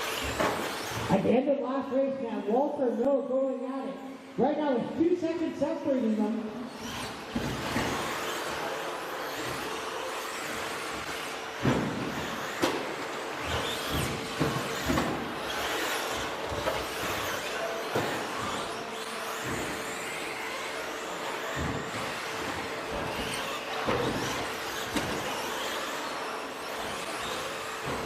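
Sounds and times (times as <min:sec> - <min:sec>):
electric motors whining: 0:00.0 - 0:01.2, 0:06.5 - 0:28.0.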